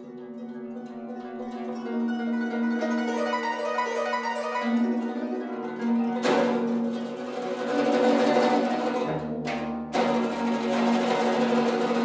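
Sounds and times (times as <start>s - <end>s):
zither plucked notes: 0.0s - 12.0s.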